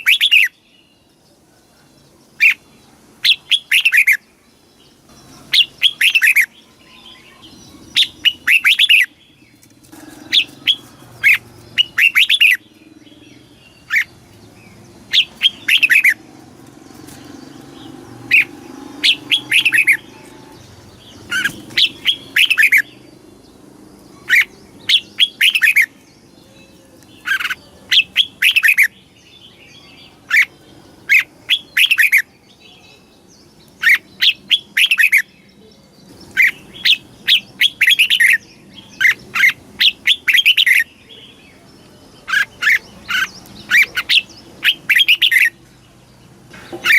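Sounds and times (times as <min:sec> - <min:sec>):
bulbul singing: 0:00.0 - 0:46.9.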